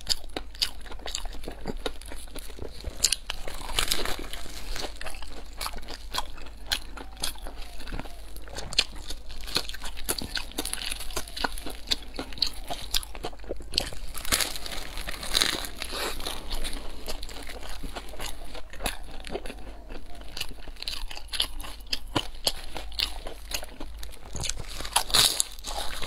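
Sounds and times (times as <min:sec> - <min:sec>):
crispy crust crackling: 0:00.0 - 0:26.0
crunching and chewing: 0:00.0 - 0:26.0.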